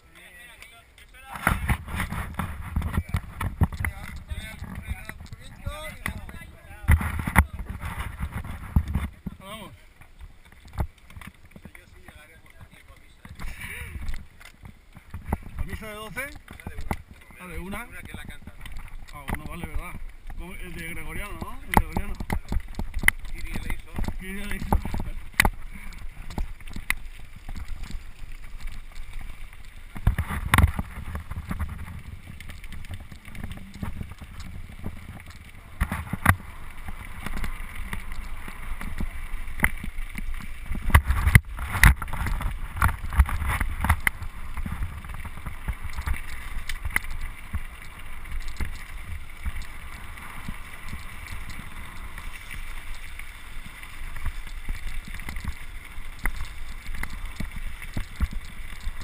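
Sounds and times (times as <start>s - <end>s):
bike rolling over rough ground: 0.0s - 59.0s.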